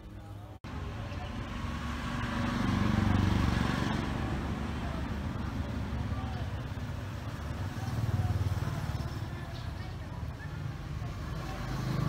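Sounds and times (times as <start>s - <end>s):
motor vehicle passing by: 0.7s - 12.0s.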